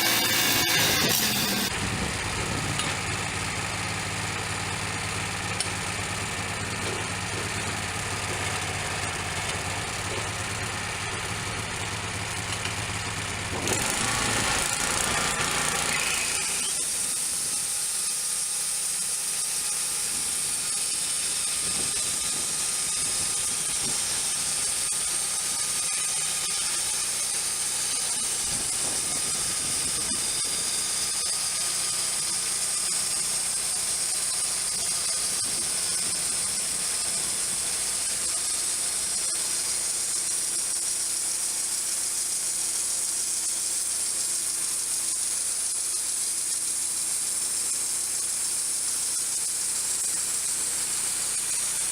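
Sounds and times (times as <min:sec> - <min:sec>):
band sawmill blade cutting log: 0:00.0 - 0:51.9
sawmill engine running: 0:00.0 - 0:51.9.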